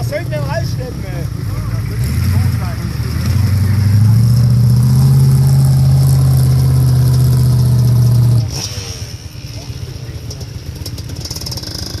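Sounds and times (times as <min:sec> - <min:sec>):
diesel engine running loud: 0:00.0 - 0:12.0.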